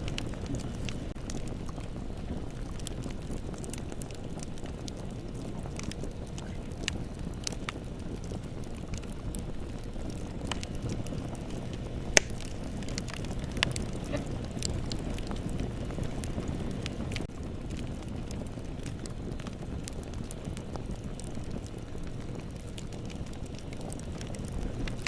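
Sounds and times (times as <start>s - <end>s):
bonfire crackling: 0.0s - 25.0s.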